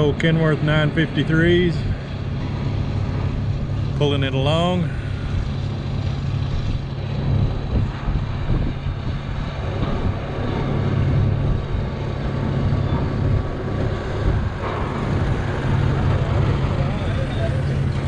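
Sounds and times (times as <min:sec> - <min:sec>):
truck diesel engine drone: 0:00.0 - 0:18.0.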